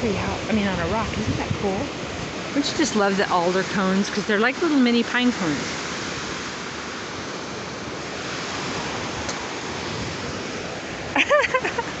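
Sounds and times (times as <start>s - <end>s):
surf washing on beach: 0.0s - 12.0s.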